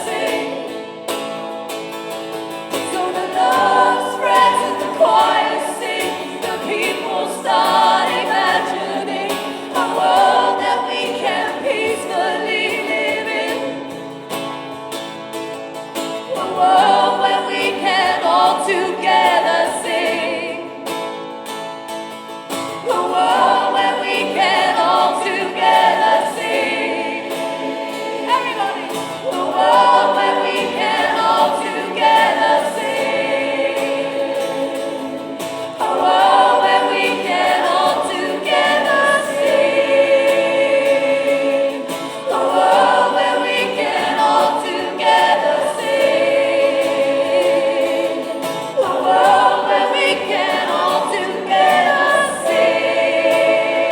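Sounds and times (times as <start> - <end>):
choir singing: 0.0 - 21.6, 22.6 - 53.9.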